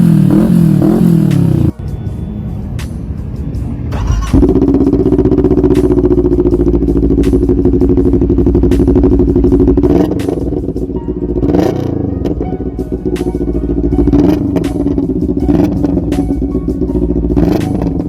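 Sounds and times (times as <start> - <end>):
motorcycle engine revving: 0.0 - 1.8, 3.9 - 18.0.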